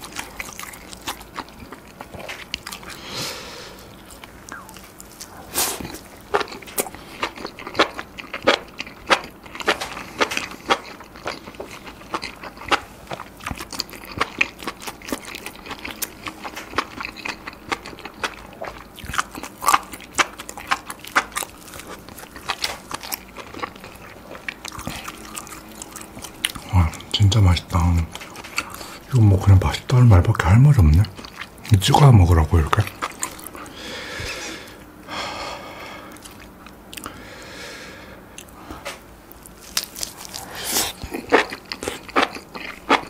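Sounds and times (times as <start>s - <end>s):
close chewing with mouth clicks: 0.0s - 3.0s, 3.9s - 29.1s, 30.7s - 31.8s, 32.7s - 34.9s, 36.1s - 37.2s, 39.3s - 43.0s.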